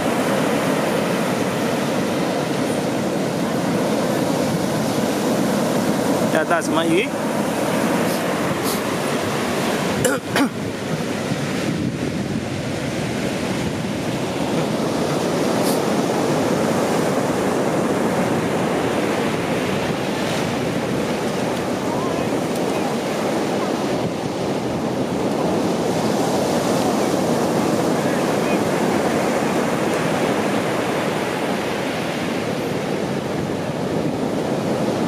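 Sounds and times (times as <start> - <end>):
ocean surf breaking: 0.0 - 35.0.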